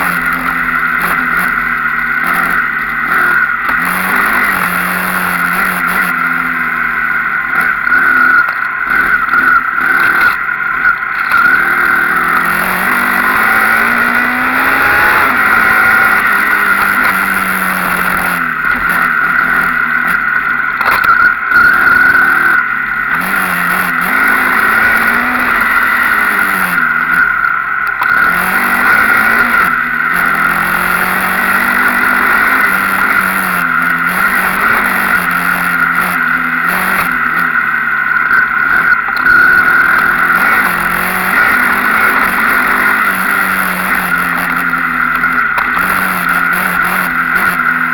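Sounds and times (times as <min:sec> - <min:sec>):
motorcycle engine revving: 0:00.0 - 0:47.9
steady high whine: 0:00.0 - 0:47.9.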